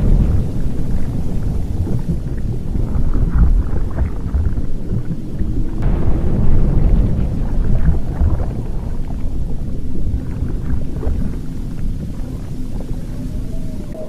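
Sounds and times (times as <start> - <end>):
crackles and pops: 0.0 - 14.0
volcanic eruption rumbling: 0.0 - 14.0.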